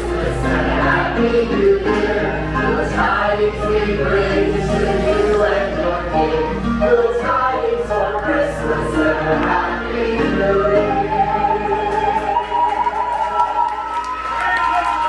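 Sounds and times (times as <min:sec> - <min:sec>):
choir singing: 0:00.0 - 0:13.0
musical accompaniment: 0:00.0 - 0:14.7.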